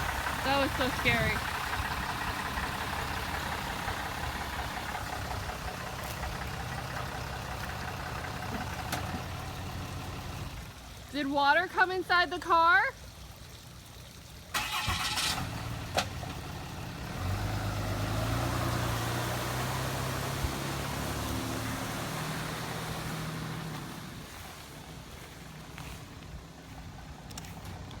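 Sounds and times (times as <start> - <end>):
pickup truck engine running: 0.0 - 11.4, 14.5 - 28.0.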